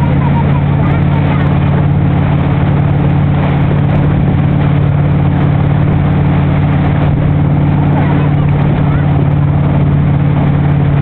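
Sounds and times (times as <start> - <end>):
motorboat engine humming: 0.0 - 11.0
wake water rushing: 0.0 - 11.0.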